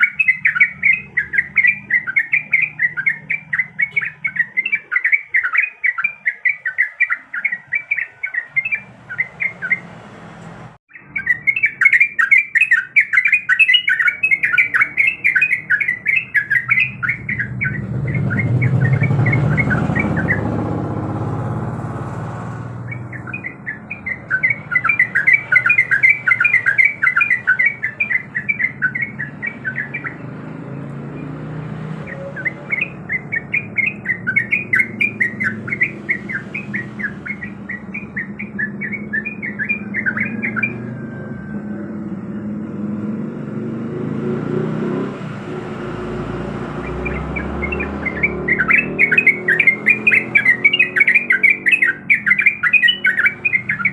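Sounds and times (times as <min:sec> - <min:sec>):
bird singing bubbling chirps: 0:00.0 - 0:09.9, 0:10.9 - 0:21.7, 0:22.8 - 0:53.9.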